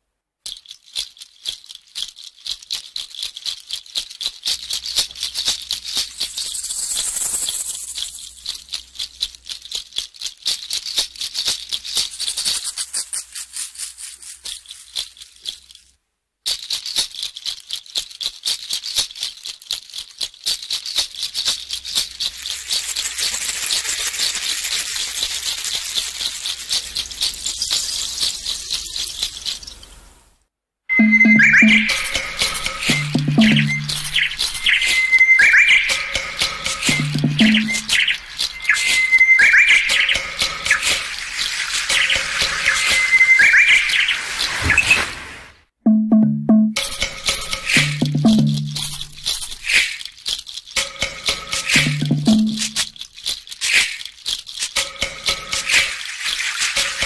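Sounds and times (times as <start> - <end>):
fast dry high-pitched rattling: 0.4 - 30.4, 31.2 - 44.7, 46.8 - 57.0.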